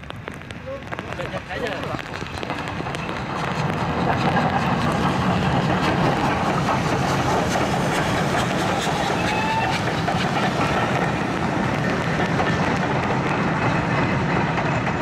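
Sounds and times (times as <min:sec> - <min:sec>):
steam locomotive passing at speed: 0:00.0 - 0:15.0.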